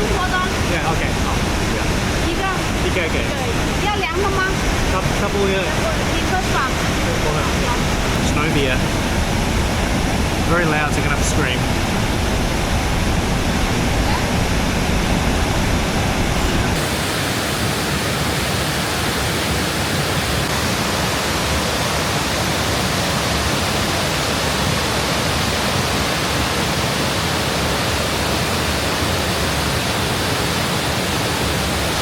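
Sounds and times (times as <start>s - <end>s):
waterfall roaring: 0.0s - 32.0s.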